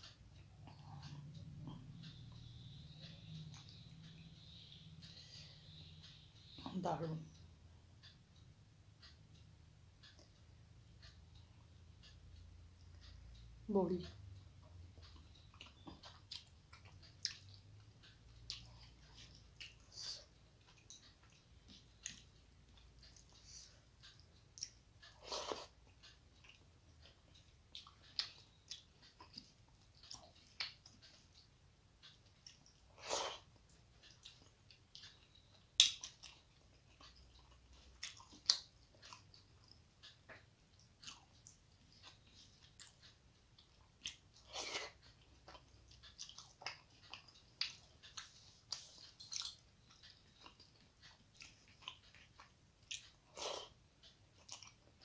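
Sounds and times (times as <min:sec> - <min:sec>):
person chewing food: 0:00.0 - 0:06.6, 0:08.0 - 0:13.5, 0:14.1 - 0:55.0.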